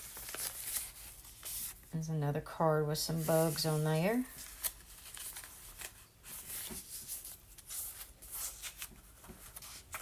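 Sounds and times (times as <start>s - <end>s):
paper rustling: 0.0s - 1.9s, 3.2s - 10.0s.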